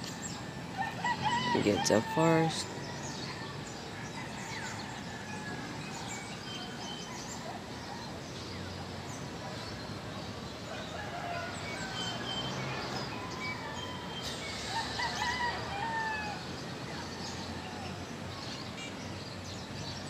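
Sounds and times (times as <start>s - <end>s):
birds chirping: 0.0s - 20.0s
outdoor background noise: 0.0s - 20.0s.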